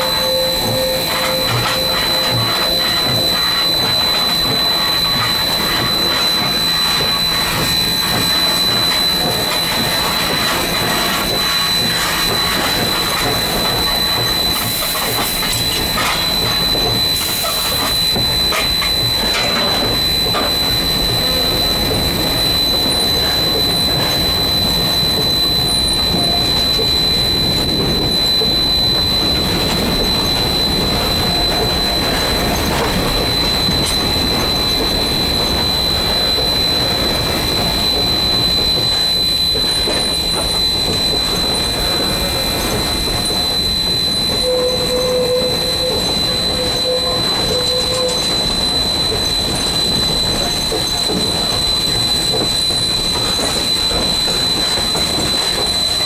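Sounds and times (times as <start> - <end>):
high-pitched whine: 0.0 - 56.0
rail clicks: 0.0 - 56.0
steam hissing: 0.0 - 56.0
steam locomotive running: 0.0 - 56.0.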